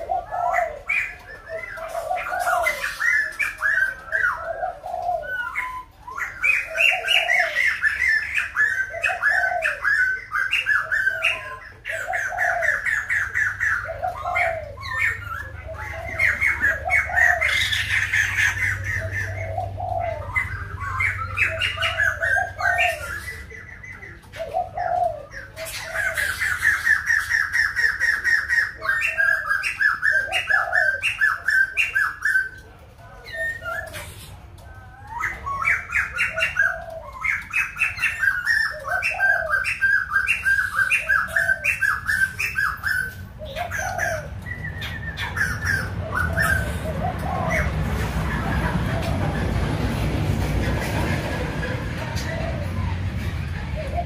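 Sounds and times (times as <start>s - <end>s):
bird chattering and whistling: 0.0s - 54.0s.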